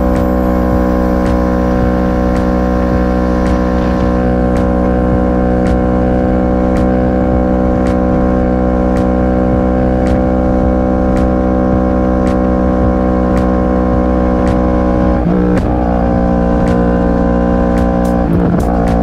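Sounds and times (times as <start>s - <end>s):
motorcycle engine droning: 0.0s - 19.0s.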